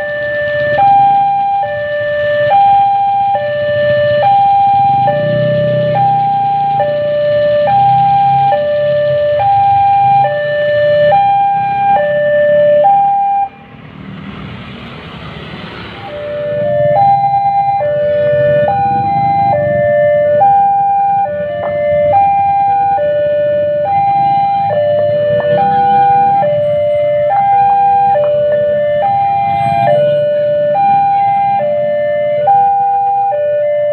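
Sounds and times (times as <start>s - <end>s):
electronic two-tone warning alarm: 0.0s - 13.6s, 16.0s - 33.9s.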